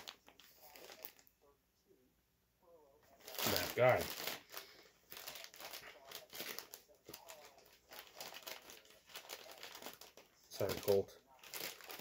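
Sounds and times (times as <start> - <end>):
plastic bag crinkling: 0.0 - 1.3, 3.1 - 12.0.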